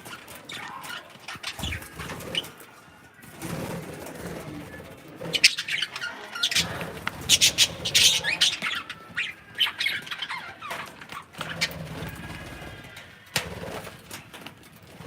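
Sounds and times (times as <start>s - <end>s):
parrots chirping and squawking: 0.0s - 15.0s.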